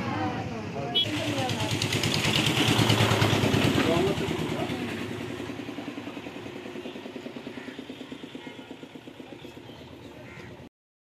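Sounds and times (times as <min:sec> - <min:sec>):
engine running with steady pulsing: 0:00.3 - 0:10.7.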